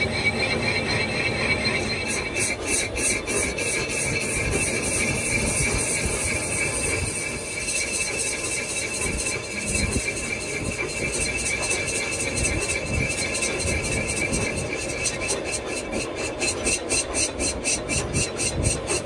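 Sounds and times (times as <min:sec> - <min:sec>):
high-pitched whine: 0:00.0 - 0:19.0
lathe tool cutting metal: 0:00.0 - 0:19.0
motor and gearing rumble: 0:00.0 - 0:19.0.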